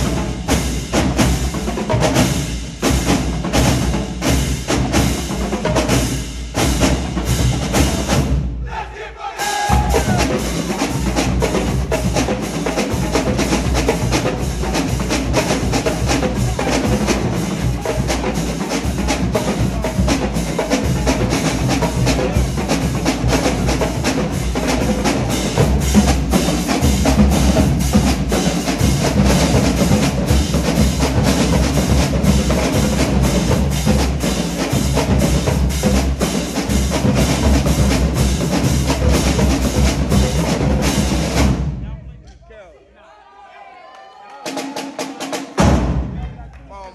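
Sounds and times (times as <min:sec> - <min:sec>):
marching drumline playing: 0:00.0 - 0:42.7, 0:44.4 - 0:46.8.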